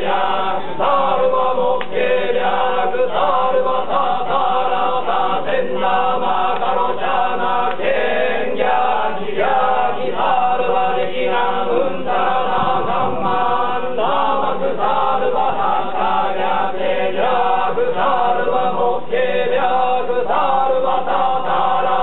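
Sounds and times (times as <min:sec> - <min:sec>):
group chanting: 0:00.0 - 0:22.0.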